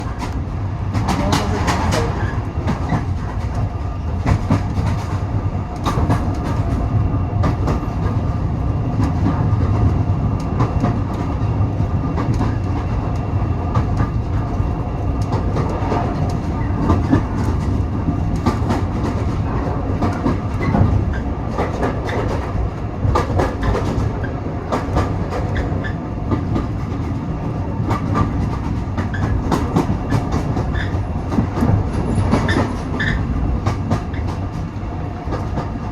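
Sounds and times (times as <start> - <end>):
railway carriage rumble: 0.0 - 35.9.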